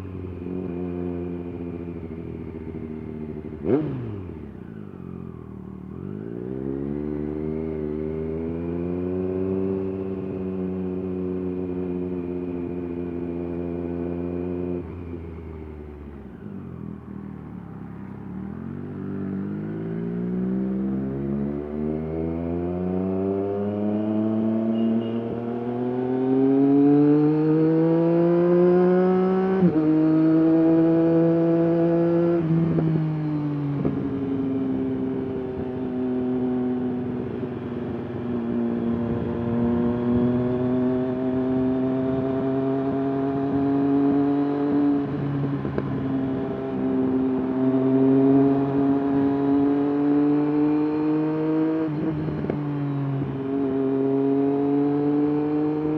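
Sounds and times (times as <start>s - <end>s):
motorcycle engine revving: 0.2s - 55.9s.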